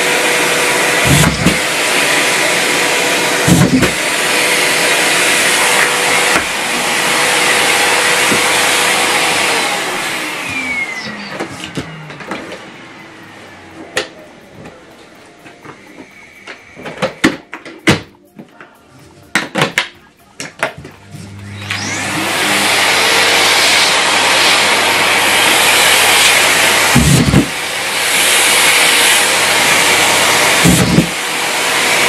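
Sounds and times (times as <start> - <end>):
vacuum cleaner motor running: 0.0 - 18.0, 19.3 - 32.0.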